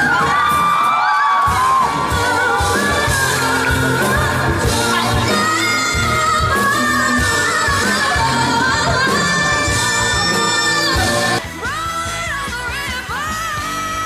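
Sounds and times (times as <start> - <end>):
pop band playing: 0.0 - 14.0
soprano singing into a microphone: 1.5 - 14.0.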